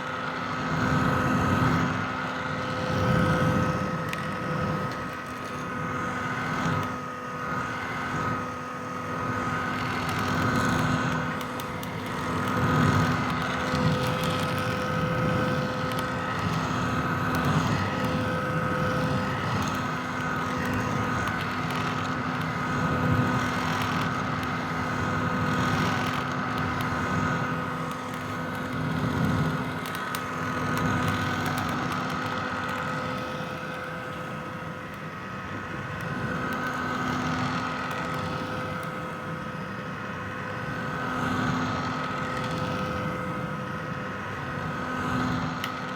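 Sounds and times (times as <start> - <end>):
hair dryer blowing: 7.4 - 45.9.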